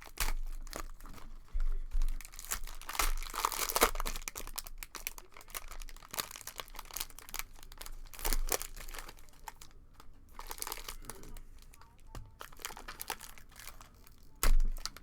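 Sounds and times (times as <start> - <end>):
cellophane wrappers crinkling: 0.0 - 15.0.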